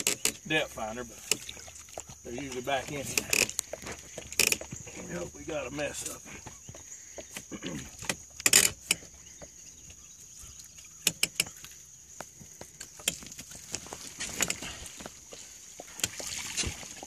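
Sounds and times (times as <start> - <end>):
hand line hauled and coiled: 0.0 - 6.6, 7.3 - 9.5, 10.5 - 17.0.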